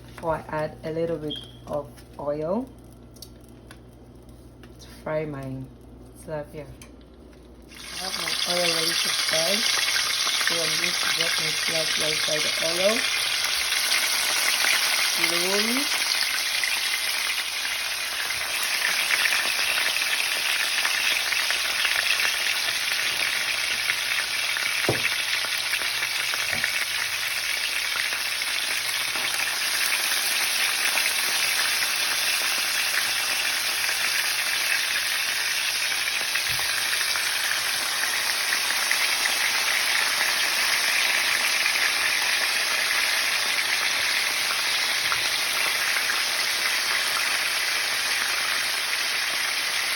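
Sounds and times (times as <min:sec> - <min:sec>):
fish frying in hot oil: 0:07.7 - 0:49.9.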